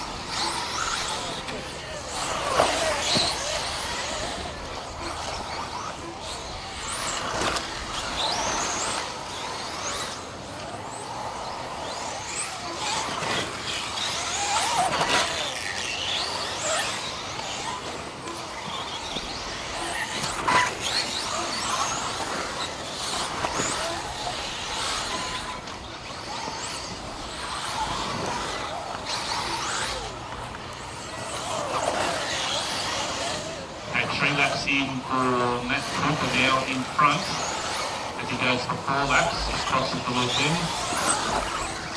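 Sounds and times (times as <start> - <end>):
rc car motors whining: 0.0 - 41.9.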